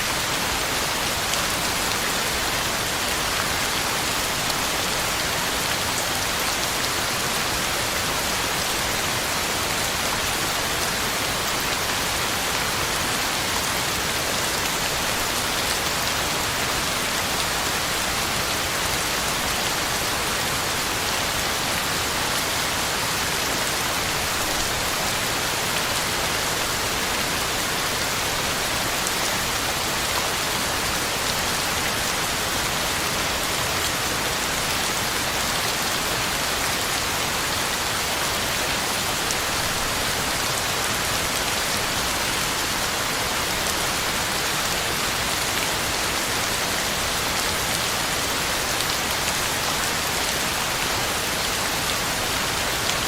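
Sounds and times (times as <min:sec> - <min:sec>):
heavy rain on leaves: 0:00.0 - 0:53.0.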